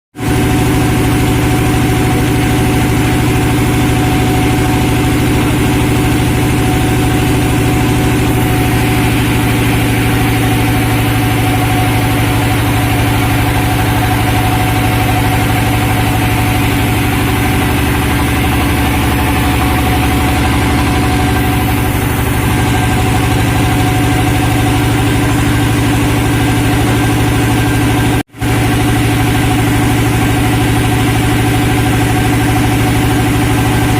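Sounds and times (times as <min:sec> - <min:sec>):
sawmill engine running: 0:00.2 - 0:33.9.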